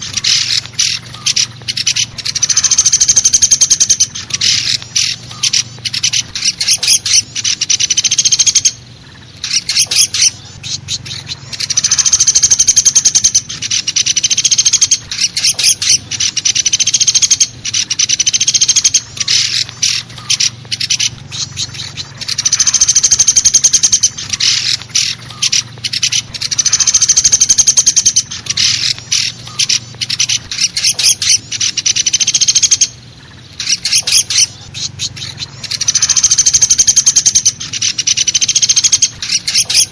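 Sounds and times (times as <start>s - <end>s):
woodpecker rattling trills: 0.0s - 39.9s.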